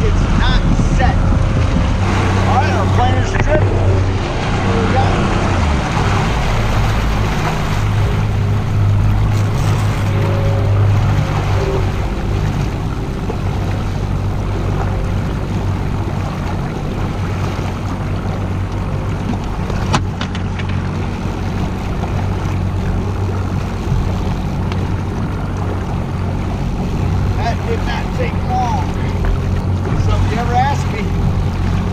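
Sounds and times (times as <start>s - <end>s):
boat engine humming: 0.0s - 31.9s
water noise: 0.0s - 31.9s
wind: 0.0s - 31.9s.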